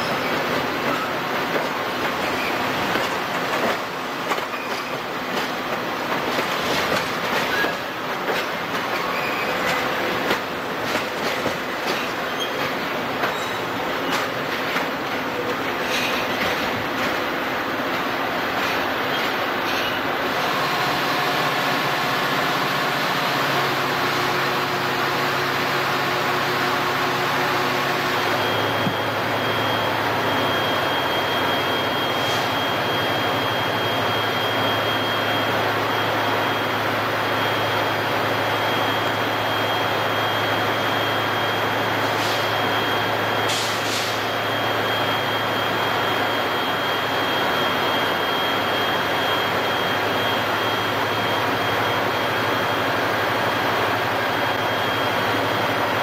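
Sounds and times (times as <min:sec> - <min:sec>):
diesel locomotive drone: 0:00.0 - 0:56.0.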